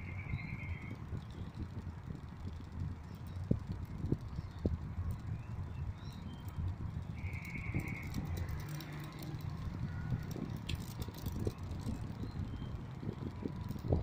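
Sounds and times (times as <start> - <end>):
fan air buffeting microphone: 0.0 - 14.0.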